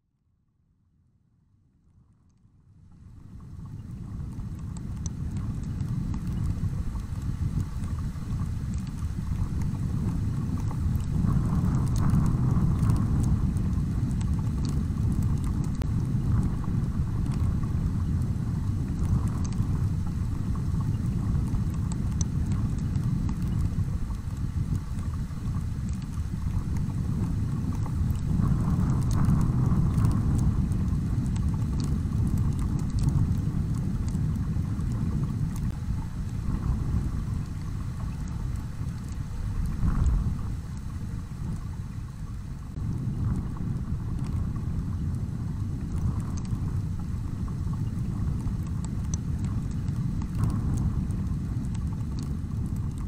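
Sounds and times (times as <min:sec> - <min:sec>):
wind buffeting microphone: 0:02.9 - 0:53.0.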